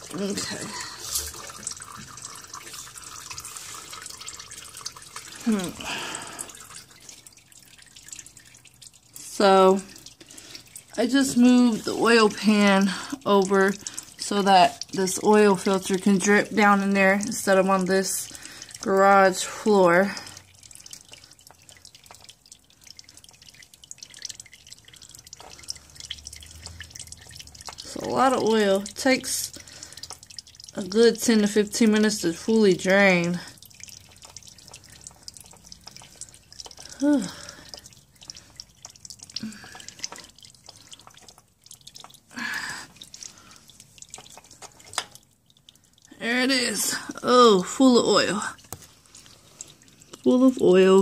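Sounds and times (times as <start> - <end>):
oil dripping into a pan: 0.0 - 51.0.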